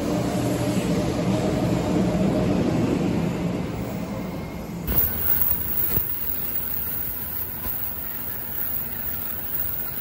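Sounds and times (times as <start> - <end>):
high-speed train passing: 0.0 - 10.0.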